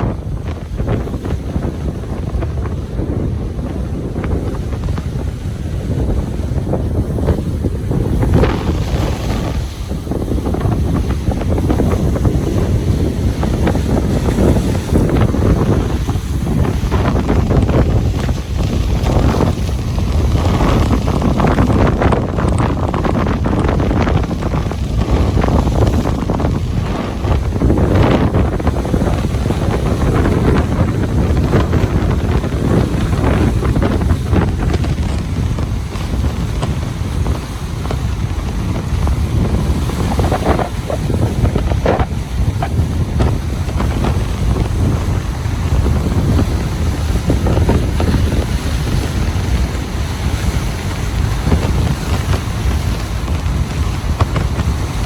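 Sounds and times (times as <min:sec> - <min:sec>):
ocean surf washing onto beach: 0:00.0 - 0:55.0
wind buffeting microphone: 0:00.0 - 0:55.0.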